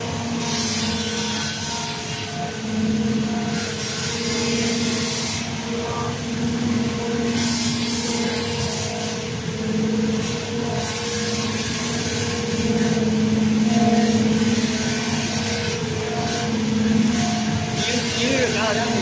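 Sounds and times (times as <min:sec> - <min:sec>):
vibrating knife cutter humming: 0:00.0 - 0:19.0.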